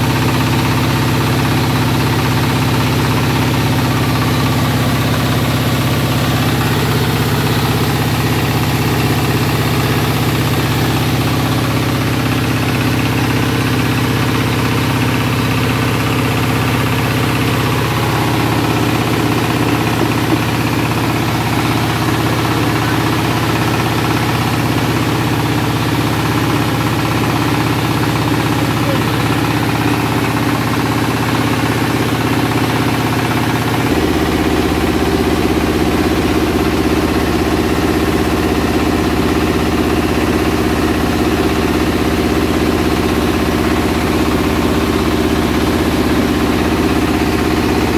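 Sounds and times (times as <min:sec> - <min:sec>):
diesel engine and mill humming: 0:00.0 - 0:47.9.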